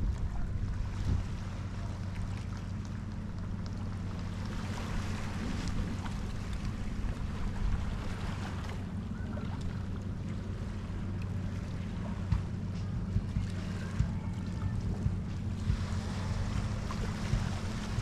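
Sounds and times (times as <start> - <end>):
small waves lapping over rocks: 0.0 - 18.0
steady low rumble: 0.0 - 18.0.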